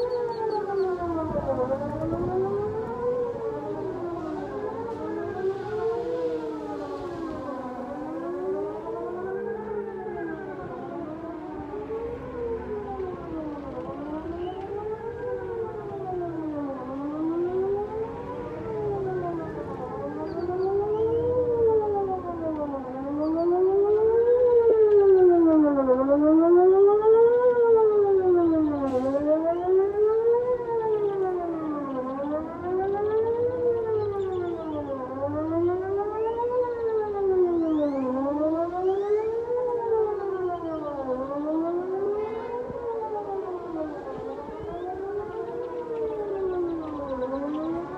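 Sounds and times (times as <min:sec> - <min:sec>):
outdoor warning siren wailing: 0:00.0 - 0:47.9.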